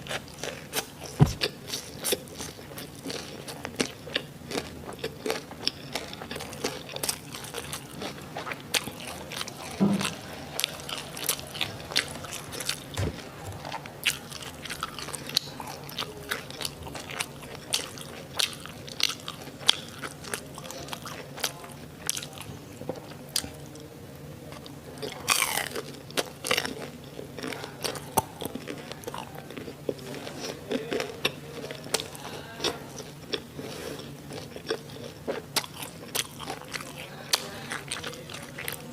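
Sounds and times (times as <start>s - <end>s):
crunchy chewing: 0.0s - 23.8s, 24.5s - 38.9s.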